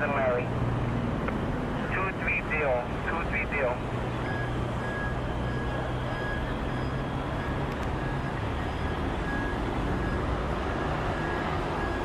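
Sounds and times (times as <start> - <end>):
highway traffic: 0.0 - 12.0.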